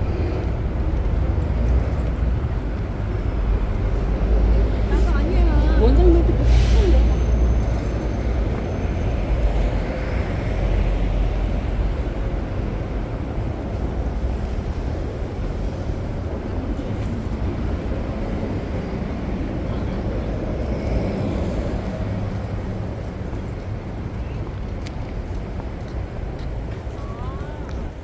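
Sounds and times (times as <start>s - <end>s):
city traffic rumble: 0.0s - 28.0s.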